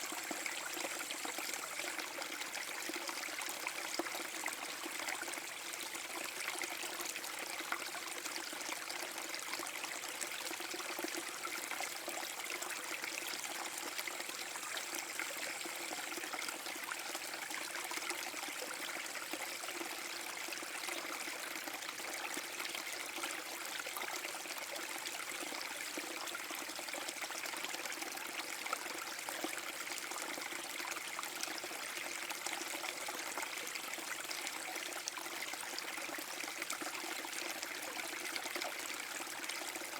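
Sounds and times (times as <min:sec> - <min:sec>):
small waterfall splashing: 0:00.0 - 0:39.9
water trickling: 0:00.0 - 0:39.9.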